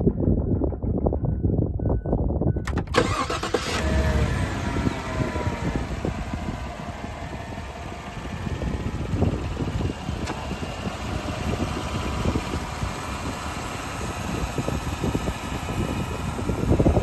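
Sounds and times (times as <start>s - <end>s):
car engine idling: 2.7s - 17.0s.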